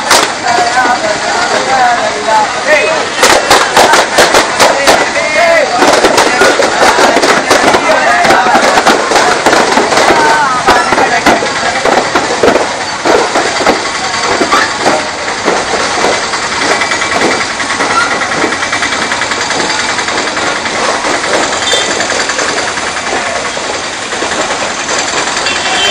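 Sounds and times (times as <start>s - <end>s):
rapid even pulse: 0.0s - 25.7s
street noise: 0.0s - 25.9s
small engine running: 0.9s - 25.9s.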